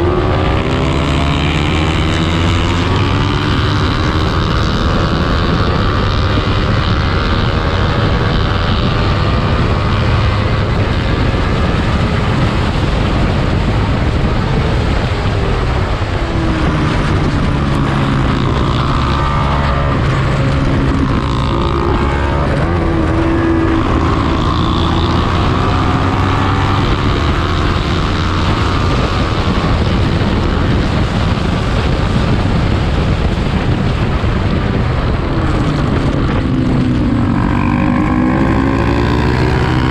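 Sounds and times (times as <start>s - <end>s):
loud noisy rush: 0.0s - 39.9s
racing motorcycle engine revving: 0.0s - 39.9s.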